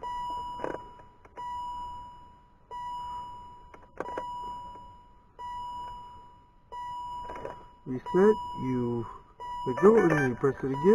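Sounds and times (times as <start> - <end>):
car warning chime: 0.0 - 10.9.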